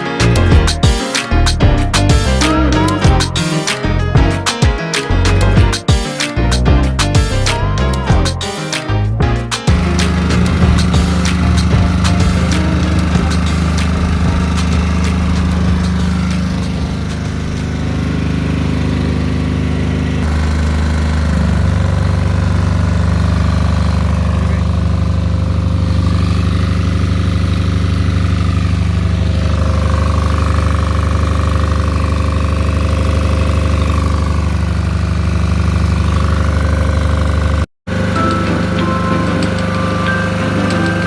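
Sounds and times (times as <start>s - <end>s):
diesel generator running: 0.0s - 41.0s.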